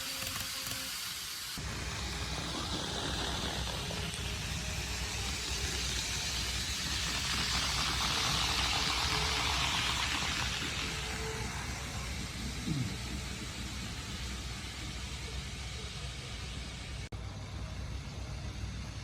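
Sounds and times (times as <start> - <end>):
model train wheels on rail: 0.0 - 18.9.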